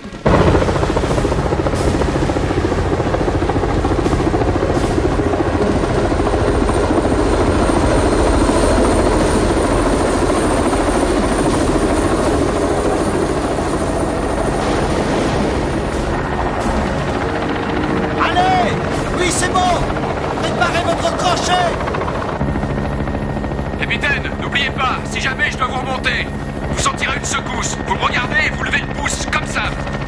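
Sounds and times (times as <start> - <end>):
helicopter hovering: 0.0 - 30.0.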